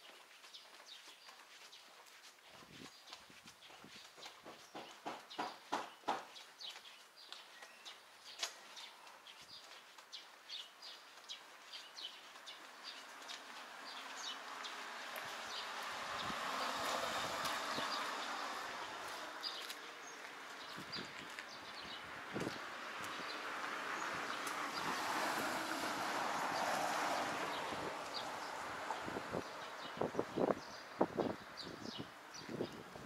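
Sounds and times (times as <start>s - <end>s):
footsteps on stone paving: 0.0s - 28.6s.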